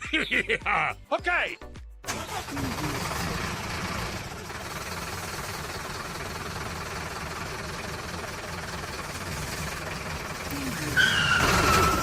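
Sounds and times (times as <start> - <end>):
engine running: 2.1 - 12.0.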